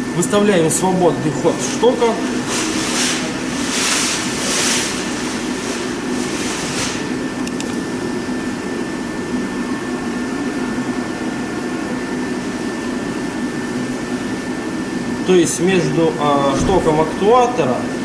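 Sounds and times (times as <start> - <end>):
machine hum with high whistle: 0.0 - 18.0.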